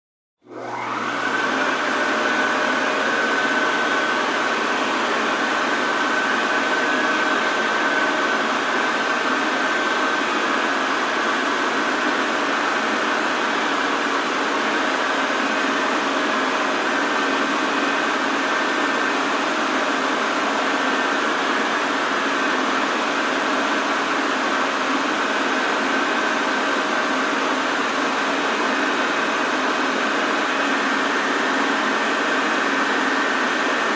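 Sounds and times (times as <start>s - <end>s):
washing machine whirring: 0.4s - 33.9s.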